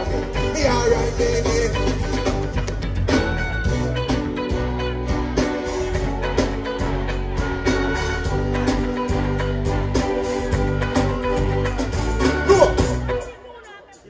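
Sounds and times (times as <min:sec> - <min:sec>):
heavy bass: 0:00.0 - 0:13.4
guitar: 0:00.0 - 0:14.0.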